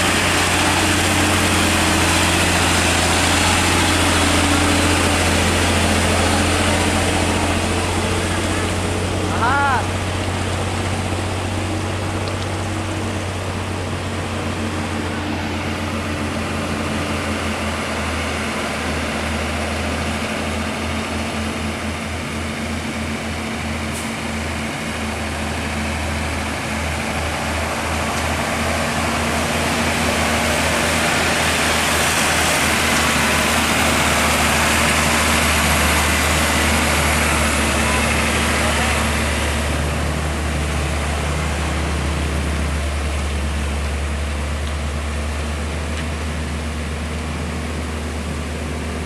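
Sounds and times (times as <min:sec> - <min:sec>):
truck diesel engine rumbling: 0:00.0 - 0:49.0.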